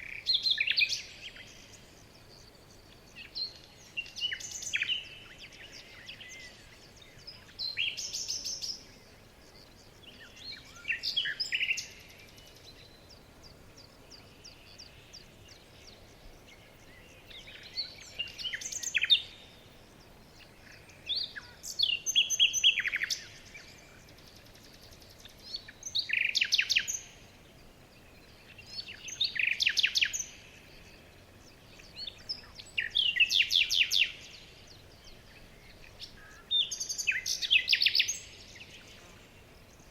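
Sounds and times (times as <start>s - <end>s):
bird chirping: 0.0s - 39.9s
faint outdoor hiss: 0.0s - 39.9s.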